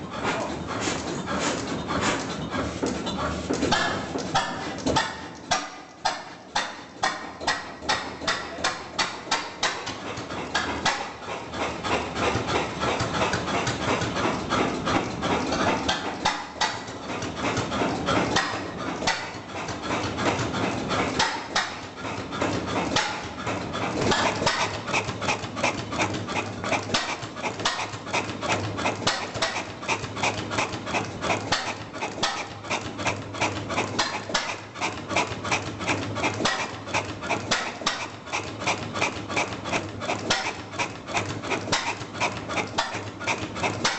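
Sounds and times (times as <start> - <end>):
stationary engine knocking: 0.0 - 43.9.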